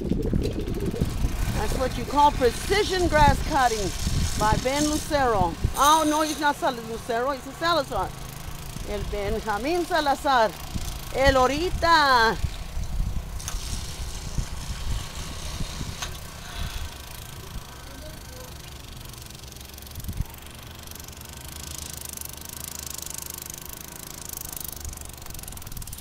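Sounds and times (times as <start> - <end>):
distant lawn edger engine: 0.0 - 26.0.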